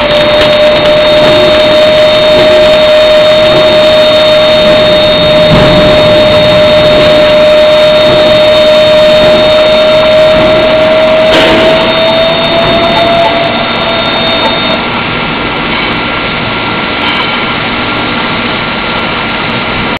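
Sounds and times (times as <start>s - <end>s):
machine whine: 0.0s - 19.9s.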